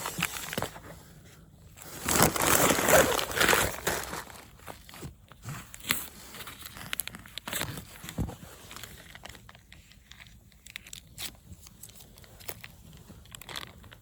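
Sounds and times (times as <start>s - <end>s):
crinkling of handled objects: 0.0s - 14.0s.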